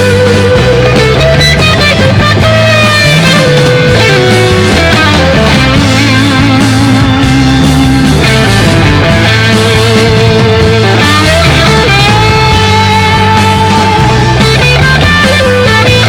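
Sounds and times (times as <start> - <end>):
rock music with guitars and bass: 0.0 - 16.0.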